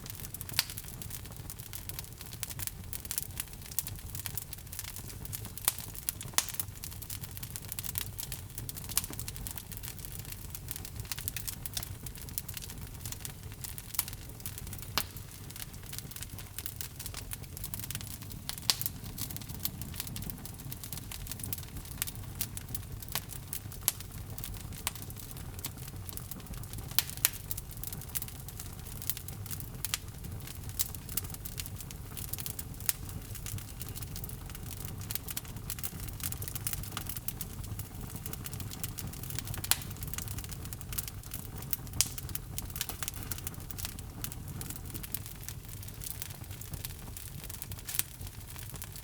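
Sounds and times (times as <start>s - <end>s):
wood logs burning and crackling: 0.0s - 49.0s.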